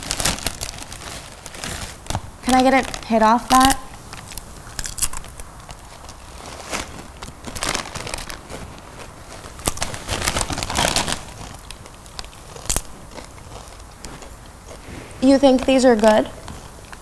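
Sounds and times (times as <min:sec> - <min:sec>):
chips crunching: 0:00.0 - 0:06.2, 0:06.8 - 0:14.8
plastic bag crinkling: 0:00.0 - 0:16.9.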